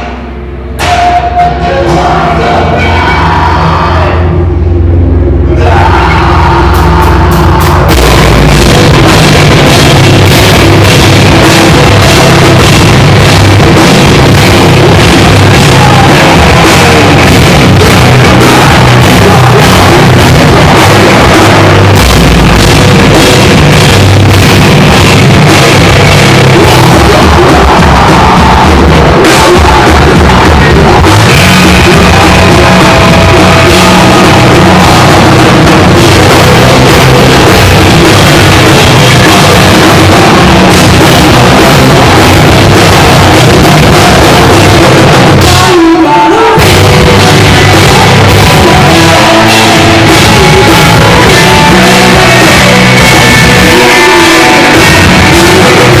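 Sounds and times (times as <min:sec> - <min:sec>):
drum kit beat: 0:00.0 - 0:04.4, 0:05.5 - 0:45.9, 0:46.6 - 0:56.0
electric guitar: 0:00.0 - 0:56.0
rock band playing: 0:00.0 - 0:56.0.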